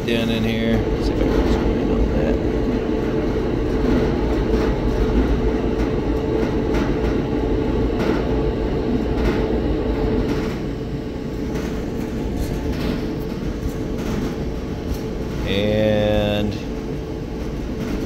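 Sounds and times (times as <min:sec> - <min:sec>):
clothes dryer rumbling: 0:00.0 - 0:18.0.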